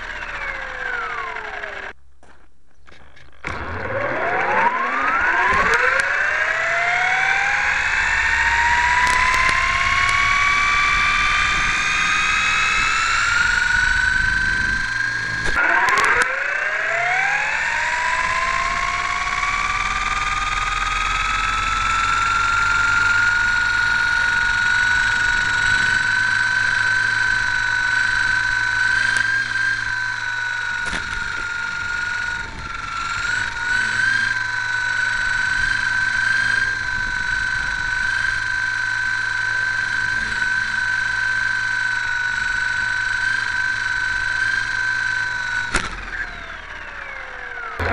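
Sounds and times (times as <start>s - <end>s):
model plane motor whining: 0.0s - 2.0s, 2.9s - 47.9s.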